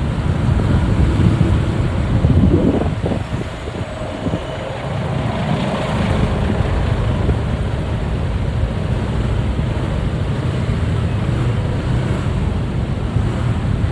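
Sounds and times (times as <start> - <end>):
motorbike engine rumble: 0.0 - 13.9
road noise: 0.0 - 13.9
wind buffeting microphone: 0.0 - 13.9.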